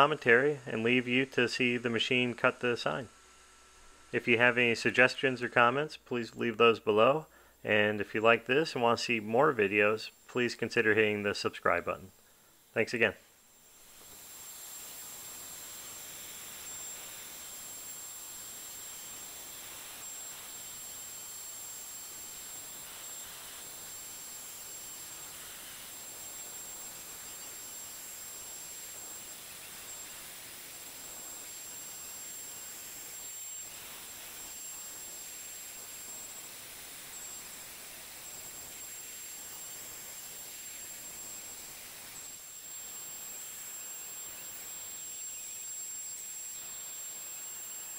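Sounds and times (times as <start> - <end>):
router spindle high-pitched whine: 0.0 - 47.9.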